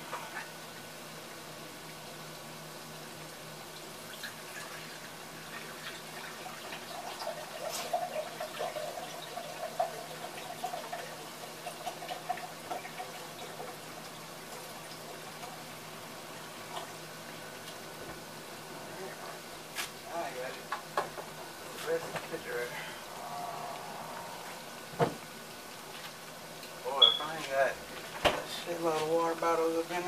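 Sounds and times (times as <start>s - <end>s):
milk bubbling in saucepan: 0.0s - 26.7s
steady hiss: 0.0s - 30.0s.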